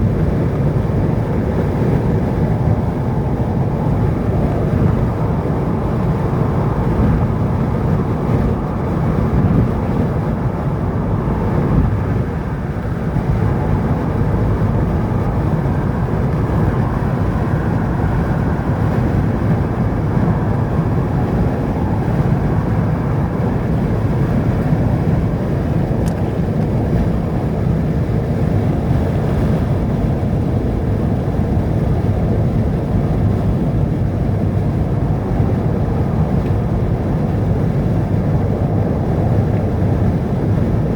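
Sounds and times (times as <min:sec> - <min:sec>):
vehicle low rumble: 0:00.0 - 0:40.9.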